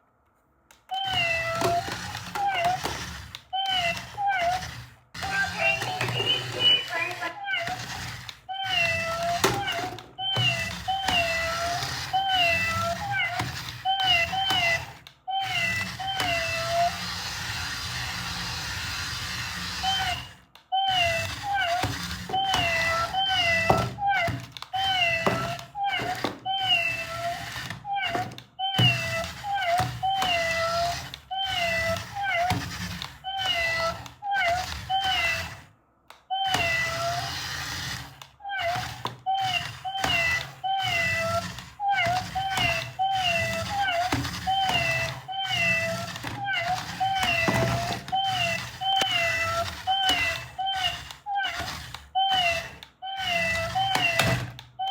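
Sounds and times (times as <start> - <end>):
electronic toy cat meows: 0.9 - 54.9.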